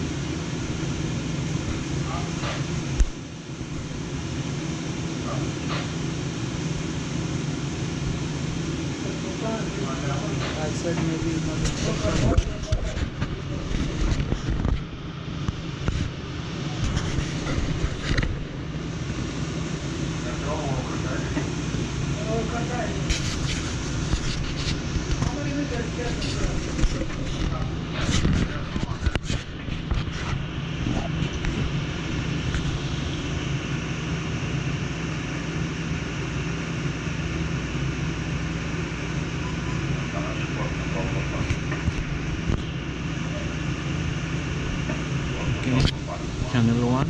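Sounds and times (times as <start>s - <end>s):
low machinery hum: 0.0s - 47.0s.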